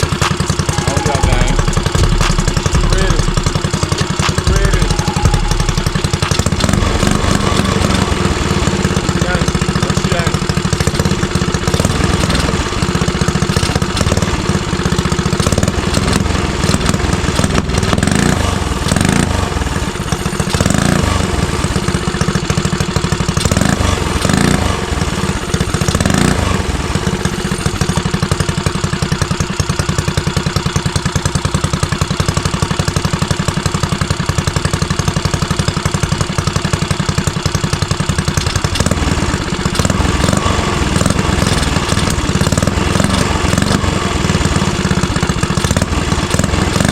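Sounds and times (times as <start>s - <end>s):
mini-bike engine running: 0.0s - 46.9s.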